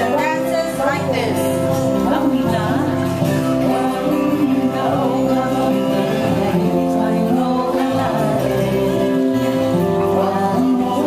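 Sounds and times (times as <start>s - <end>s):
singing with instrumental accompaniment: 0.0s - 11.0s.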